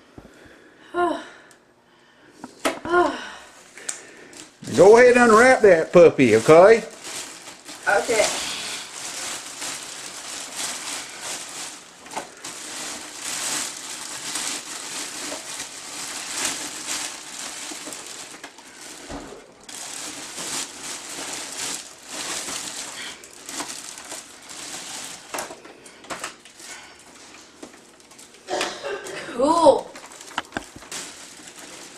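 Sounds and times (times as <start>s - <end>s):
plastic wrapping crinkling: 3.8s - 28.5s, 29.8s - 31.9s.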